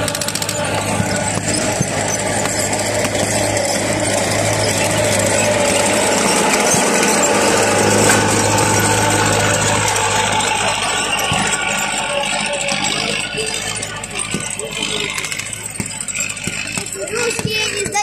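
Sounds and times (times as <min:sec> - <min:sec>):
tracked vehicle engine running: 0:00.0 - 0:18.0.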